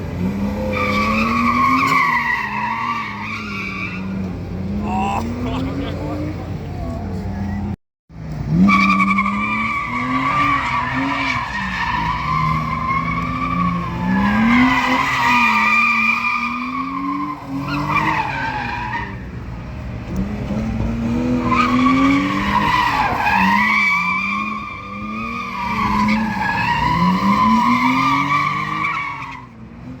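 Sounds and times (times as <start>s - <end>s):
car tyres squealing: 0.1s - 7.8s, 8.5s - 29.9s.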